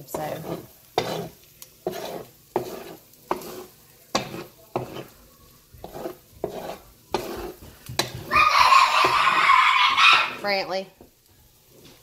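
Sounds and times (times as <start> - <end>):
utensil scraping a frying pan: 0.0 - 10.6
eggs frying: 0.0 - 12.0.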